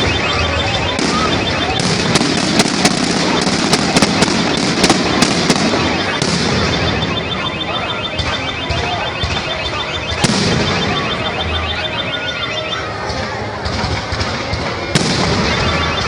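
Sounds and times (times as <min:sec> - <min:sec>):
fireworks banging: 0:00.0 - 0:16.0
fireworks crackling: 0:00.0 - 0:16.0.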